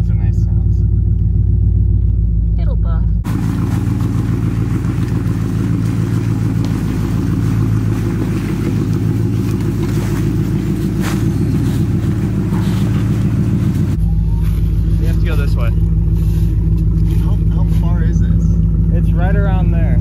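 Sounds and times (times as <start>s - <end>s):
truck engine rumbling: 0.0s - 20.0s
tires crackling over dry leaves: 3.2s - 20.0s.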